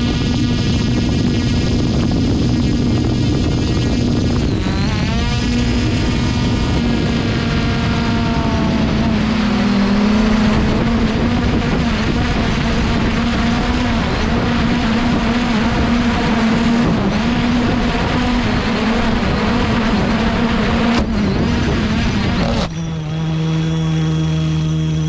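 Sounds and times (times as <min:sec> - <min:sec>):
rushing air noise: 0:00.0 - 0:23.2
drone propellers buzzing: 0:00.0 - 0:25.0.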